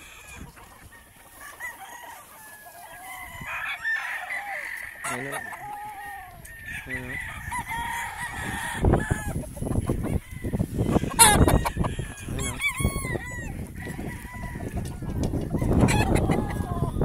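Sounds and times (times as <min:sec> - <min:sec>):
roosters crowing: 0:00.0 - 0:17.0.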